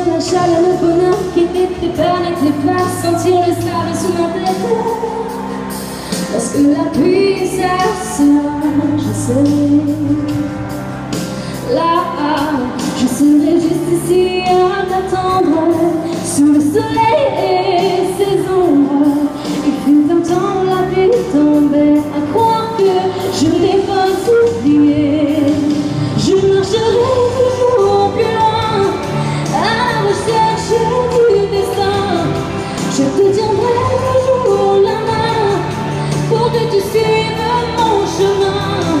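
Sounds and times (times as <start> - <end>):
pop backing music: 0.0 - 39.0
woman singing into a microphone: 0.0 - 39.0.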